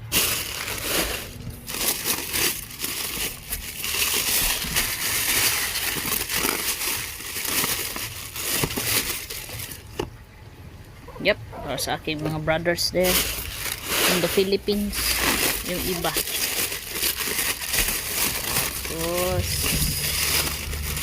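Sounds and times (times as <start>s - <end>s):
packing paper crinkling: 0.0s - 10.2s, 12.9s - 21.0s.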